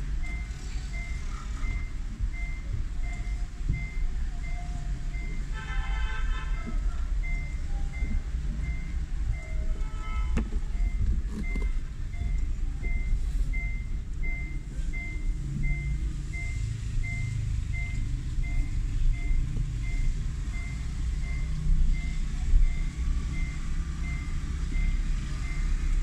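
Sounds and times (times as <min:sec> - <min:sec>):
car warning chime beeping: 0:00.0 - 0:26.0
engine and road rumble: 0:00.0 - 0:26.0.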